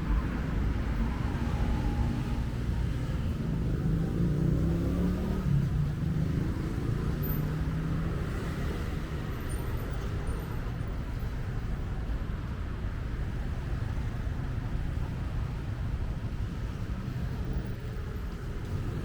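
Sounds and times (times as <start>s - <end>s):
steady road noise: 0.0s - 19.0s.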